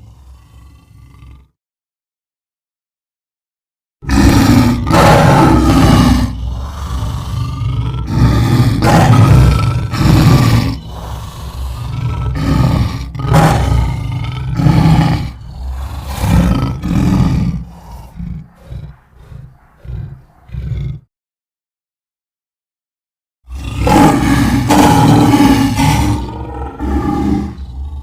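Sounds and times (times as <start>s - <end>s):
lion grunting: 0.0s - 1.5s, 4.0s - 21.1s, 23.5s - 28.0s
lion roaring: 0.0s - 1.6s, 4.0s - 21.1s, 23.5s - 28.0s.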